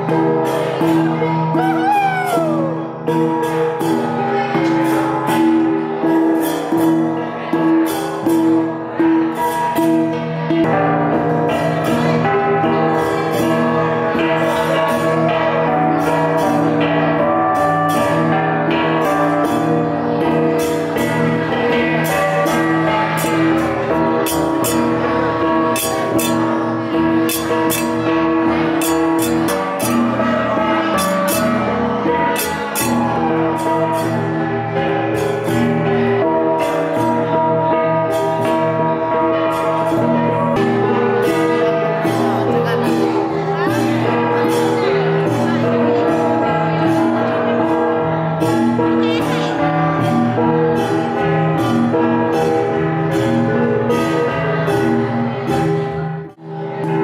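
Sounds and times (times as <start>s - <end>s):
gong ensemble playing: 0.1s - 7.0s, 10.6s - 55.6s.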